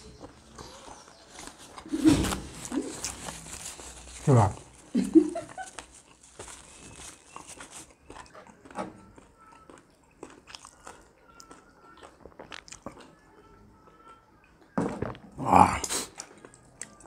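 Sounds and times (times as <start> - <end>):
biting and chewing chicken wings: 0.1 - 17.0.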